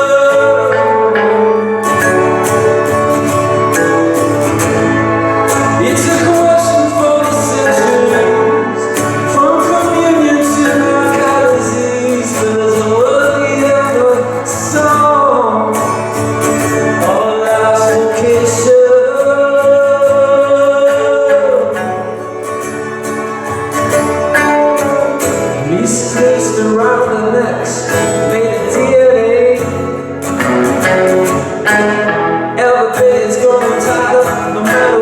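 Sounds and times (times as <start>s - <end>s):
live band playing: 0.0s - 35.0s
sliding lead melody: 0.0s - 35.0s.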